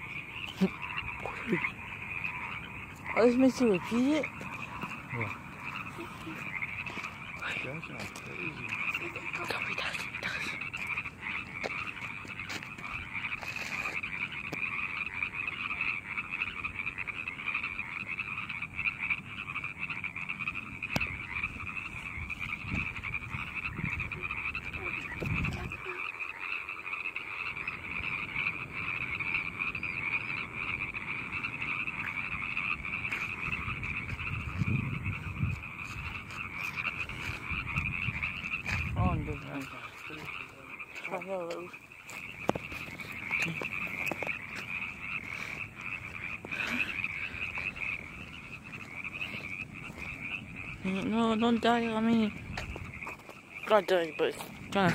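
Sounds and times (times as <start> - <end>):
frogs chorus calling: 0.0 - 54.9.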